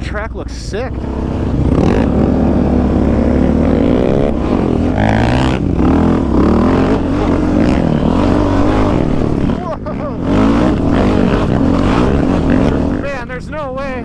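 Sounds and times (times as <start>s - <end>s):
quad engine revving: 0.0s - 14.0s.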